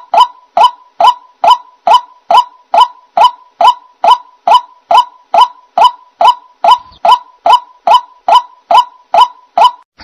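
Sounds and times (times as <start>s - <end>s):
waterhen calling: 0.0s - 9.7s.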